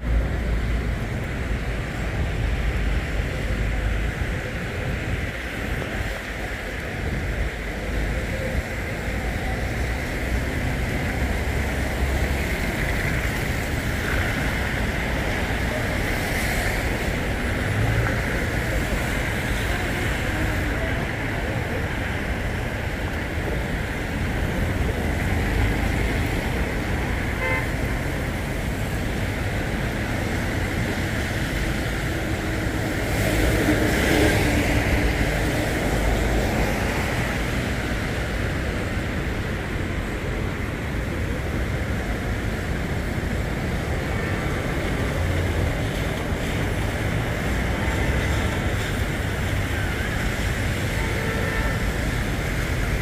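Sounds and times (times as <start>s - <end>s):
rain: 0.0s - 53.0s
tyres hissing on wet road: 0.0s - 53.0s.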